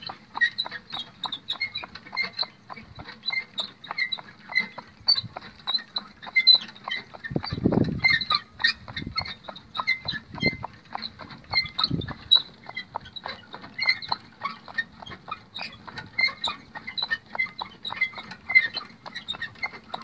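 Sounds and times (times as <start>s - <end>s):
harness and cart squeaks: 0.0s - 20.0s
hoofbeats on asphalt: 0.0s - 20.0s.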